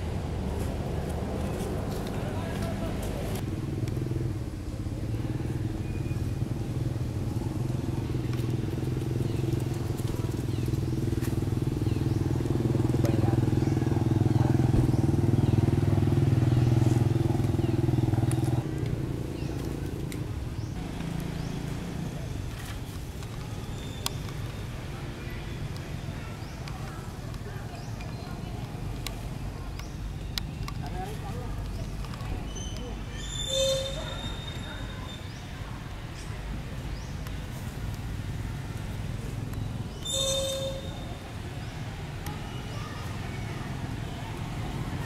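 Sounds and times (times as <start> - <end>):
engine humming steadily: 0.0 - 45.0.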